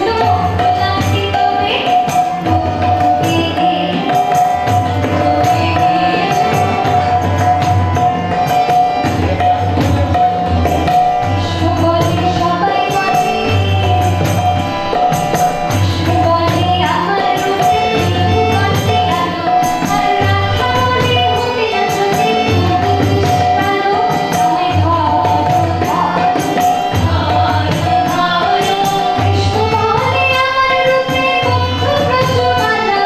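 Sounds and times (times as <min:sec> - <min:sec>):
woman singing: 0:00.0 - 0:08.2, 0:11.2 - 0:33.0
harmonium chords: 0:00.0 - 0:33.0.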